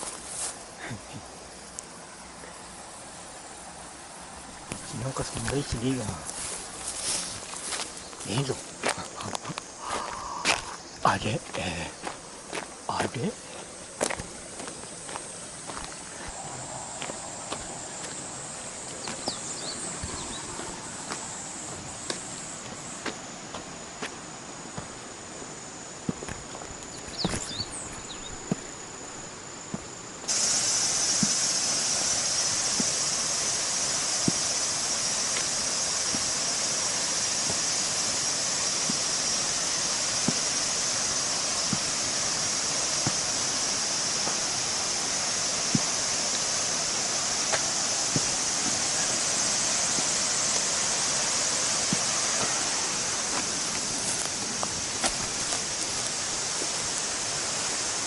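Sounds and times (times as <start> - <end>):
rushing stream water: 0.0 - 58.0.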